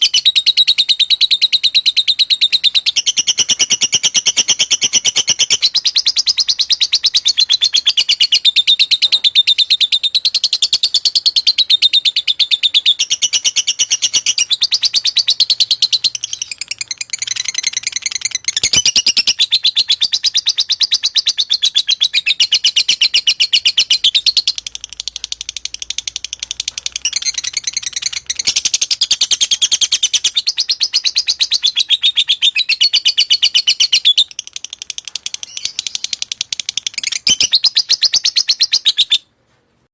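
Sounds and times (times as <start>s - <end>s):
lovebird chirping: 0.0s - 39.3s.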